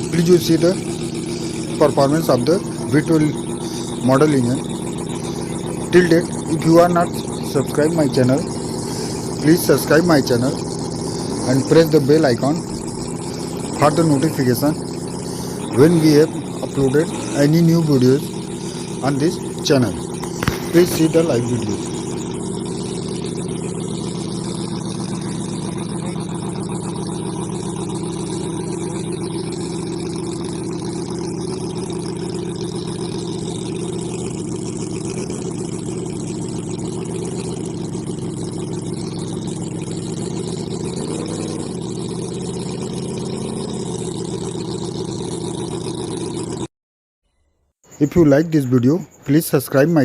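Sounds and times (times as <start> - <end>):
model engine running: 0.0 - 46.7.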